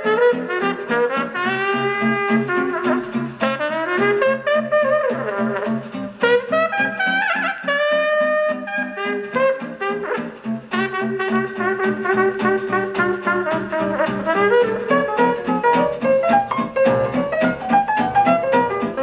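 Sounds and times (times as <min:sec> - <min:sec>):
brass-led jazz on vinyl record: 0:00.0 - 0:19.0.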